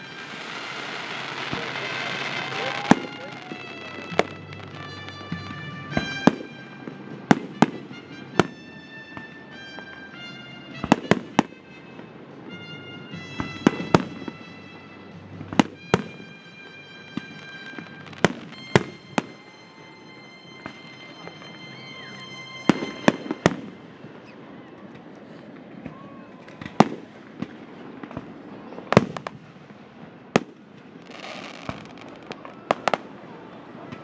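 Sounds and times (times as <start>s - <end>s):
music of held notes: 0.0s - 34.0s.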